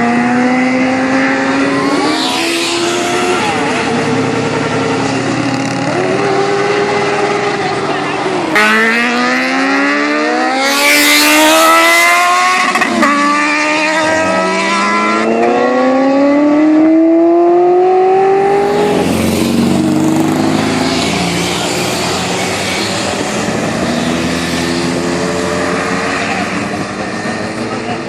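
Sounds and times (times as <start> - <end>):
engine accelerating hard: 0.0 - 28.0.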